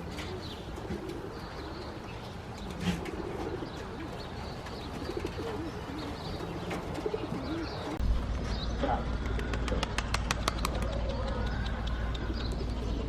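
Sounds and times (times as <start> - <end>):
pigeons cooing: 0.0 - 8.0, 8.9 - 13.0
small birds chirping: 0.0 - 13.0.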